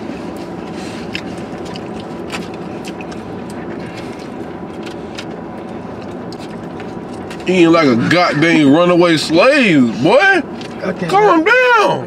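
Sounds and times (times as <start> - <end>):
car cabin hum: 0.0 - 12.0.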